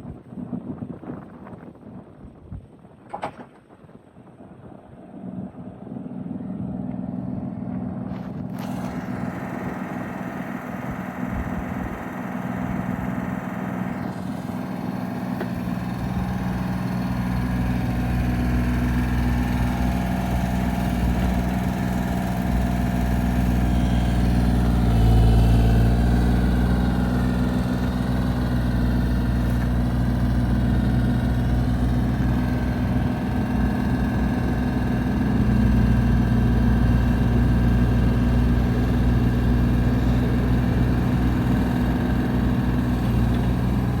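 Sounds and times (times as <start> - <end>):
excavator diesel engine idling: 5.2 - 44.0.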